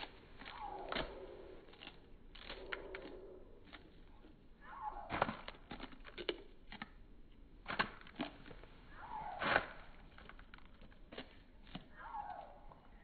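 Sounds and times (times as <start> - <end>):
chickens pecking and crunching: 0.0 - 13.0.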